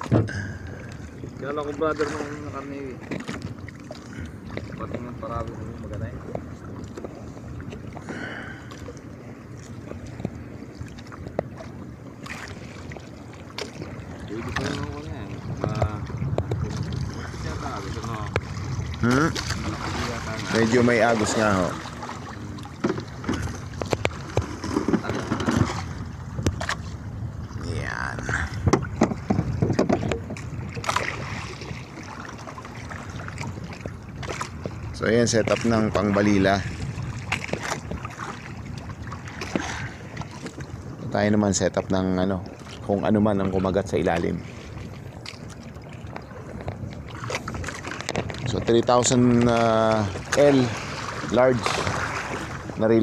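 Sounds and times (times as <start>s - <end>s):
waves lapping against boat: 0.0s - 53.0s
wind on microphone: 9.6s - 53.0s.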